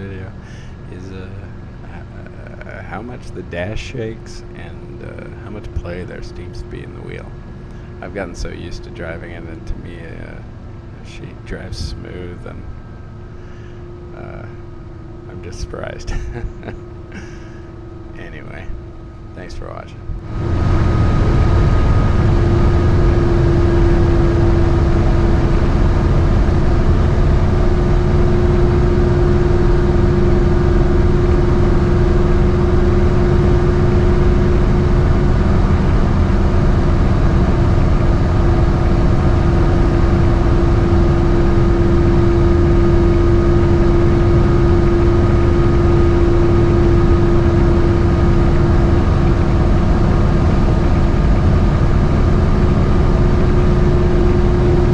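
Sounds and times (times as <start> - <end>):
constant hum-like tone: 0.0 - 54.9
engine and road noise drone: 0.0 - 54.9.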